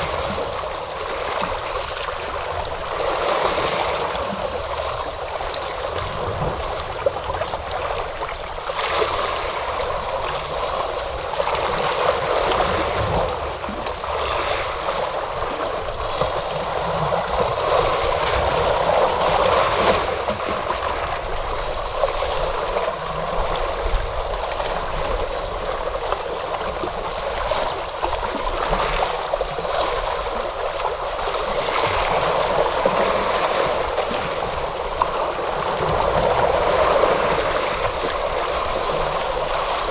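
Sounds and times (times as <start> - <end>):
ocean surf washing in: 0.0 - 39.9.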